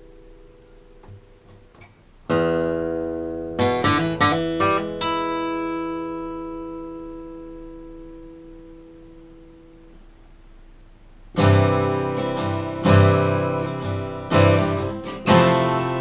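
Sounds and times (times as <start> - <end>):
acoustic guitar strumming: 0.0 - 10.0, 11.3 - 16.0.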